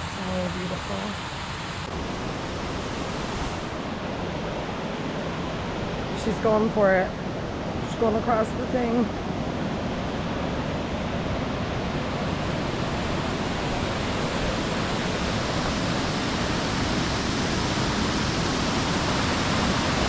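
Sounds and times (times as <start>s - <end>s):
stream water rushing over rocks: 0.0s - 20.0s.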